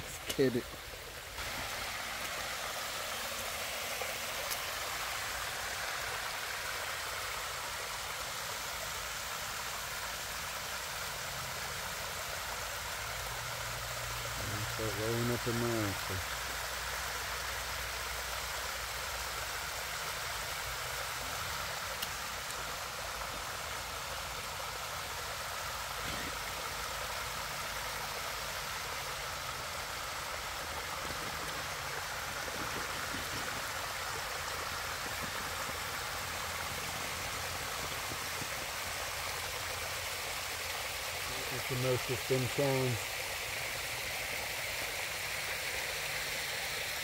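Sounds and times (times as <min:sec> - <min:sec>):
small waterfall rushing over rock: 0:00.0 - 0:47.0.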